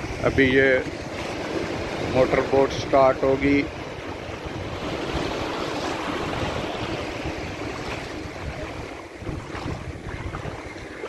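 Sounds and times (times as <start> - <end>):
waves washing up sand: 0.0 - 11.0
wind buffeting microphone: 0.0 - 11.0.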